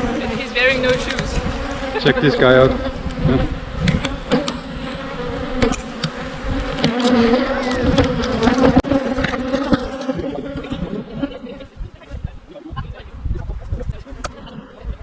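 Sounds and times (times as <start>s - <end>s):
bees buzzing: 0.0s - 12.1s.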